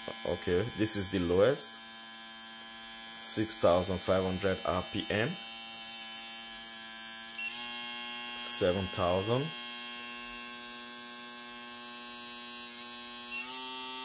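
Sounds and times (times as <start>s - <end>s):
electric shaver motor humming: 0.0s - 14.0s.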